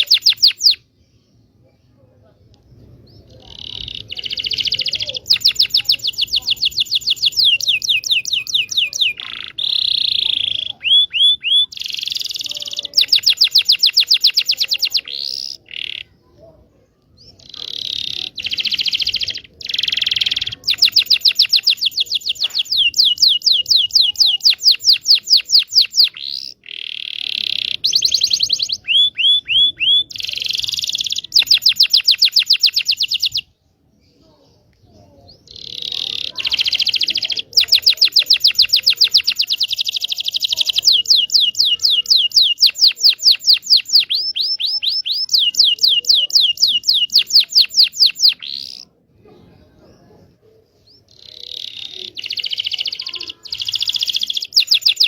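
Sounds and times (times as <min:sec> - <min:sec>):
canary singing fast trills: 0:00.0 - 0:01.0, 0:03.0 - 0:16.3, 0:17.2 - 0:34.4, 0:35.2 - 0:49.0, 0:50.6 - 0:55.0.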